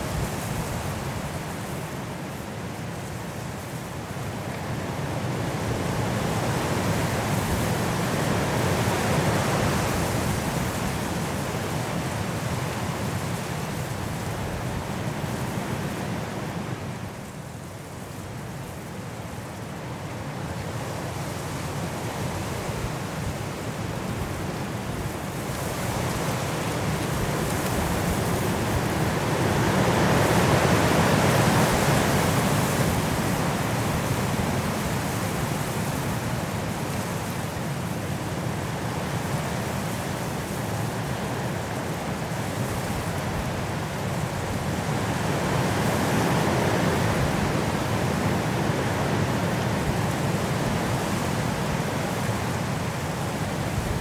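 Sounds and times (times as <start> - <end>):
strong wind through trees: 0.0 - 54.0.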